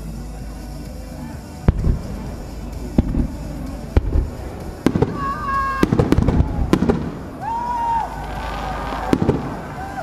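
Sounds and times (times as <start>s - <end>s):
firework shells bursting: 1.7s - 9.9s.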